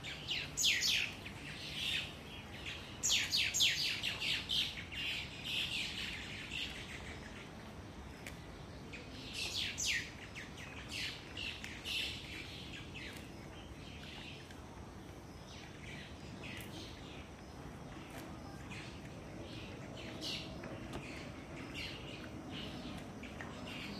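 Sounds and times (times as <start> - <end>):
faint steady hiss: 0.0 - 23.9
small birds chirping: 0.0 - 23.9.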